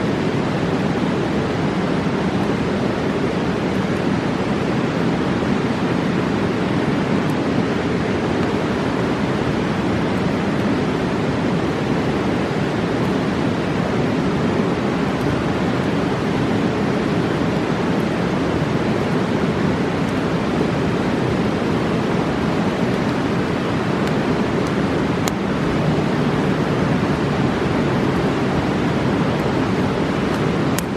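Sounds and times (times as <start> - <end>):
river rushing: 0.0 - 30.9.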